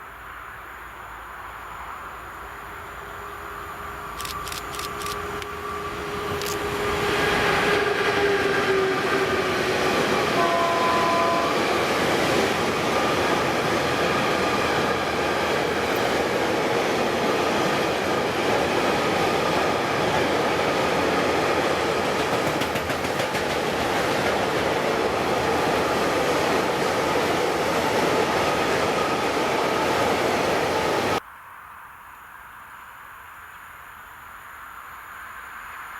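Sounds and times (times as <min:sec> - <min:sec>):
train passing at speed: 0:00.0 - 0:31.2.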